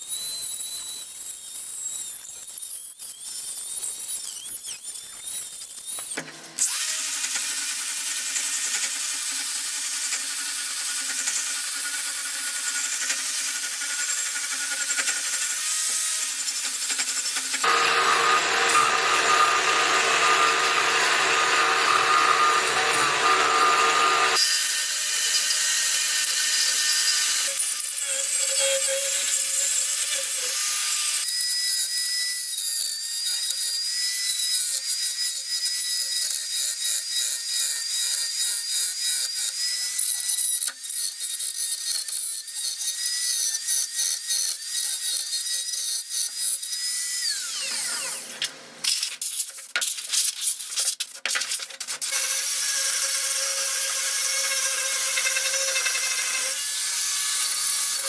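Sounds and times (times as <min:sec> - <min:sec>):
power tool grinding: 0:00.2 - 0:58.0.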